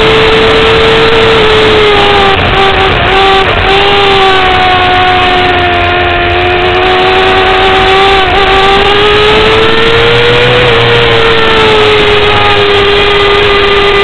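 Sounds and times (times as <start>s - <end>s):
motorcycle engine at high revs: 0.0s - 14.0s.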